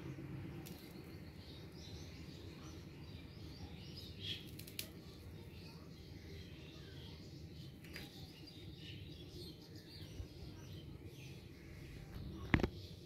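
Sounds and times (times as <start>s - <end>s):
faint bird chirping: 0.0s - 13.0s
low steady hum: 0.0s - 13.0s.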